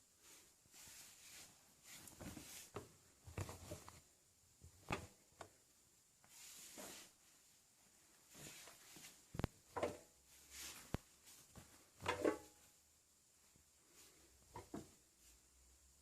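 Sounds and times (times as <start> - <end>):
soft rustles: 0.0 - 5.6, 6.2 - 12.8, 13.4 - 15.8.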